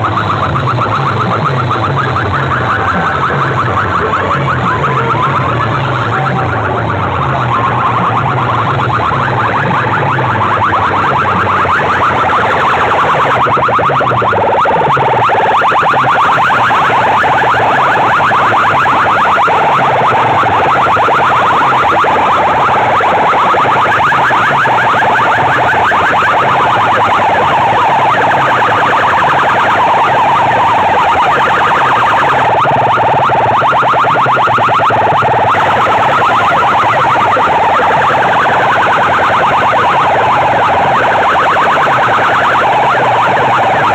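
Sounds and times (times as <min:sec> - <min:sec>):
loud distorted siren-like tones: 0:00.0 - 0:43.9.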